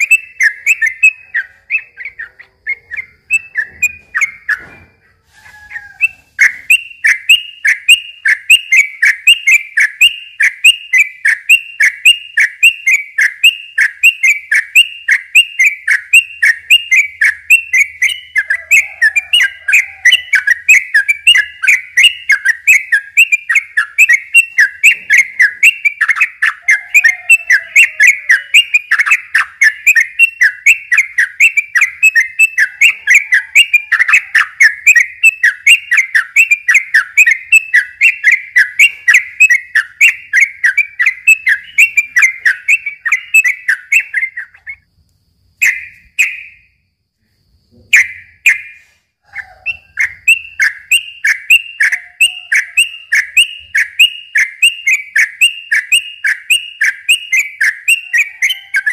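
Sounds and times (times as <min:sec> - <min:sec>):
bird singing whistled notes: 0:00.0 - 0:44.9, 0:45.6 - 0:46.8, 0:47.7 - 0:58.9.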